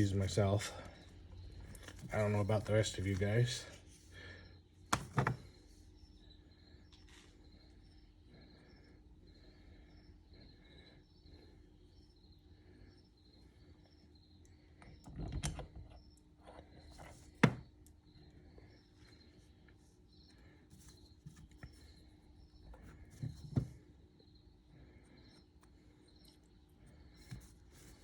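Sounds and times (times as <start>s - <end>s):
faint repeated chirping: 0.0s - 2.9s, 4.1s - 28.0s
low steady hum: 0.0s - 28.0s.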